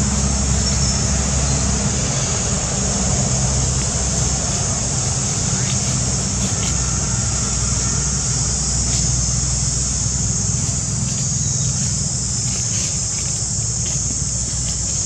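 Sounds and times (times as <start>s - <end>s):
high even hiss: 0.0s - 15.0s.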